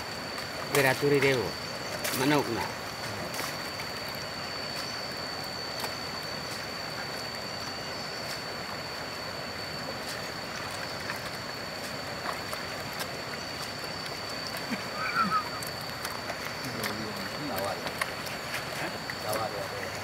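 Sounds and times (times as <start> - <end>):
river water running: 0.0 - 20.0
water splashes and drips: 0.0 - 20.0.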